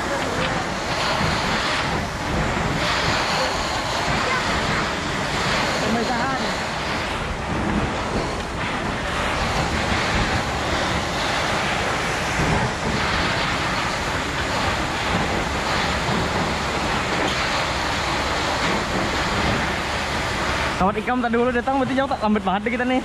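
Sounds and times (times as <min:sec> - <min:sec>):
high-pressure water jet rushing: 0:00.0 - 0:23.0.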